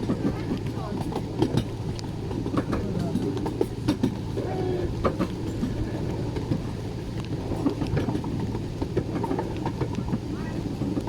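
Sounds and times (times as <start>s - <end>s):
miniature train rumbling: 0.0s - 11.0s.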